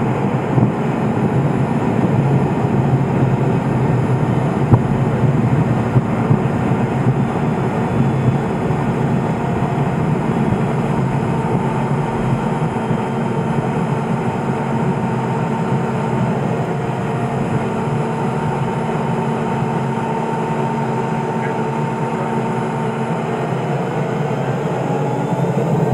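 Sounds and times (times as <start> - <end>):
faint steady whine: 0.0 - 25.9
propeller engine drone: 0.0 - 25.9.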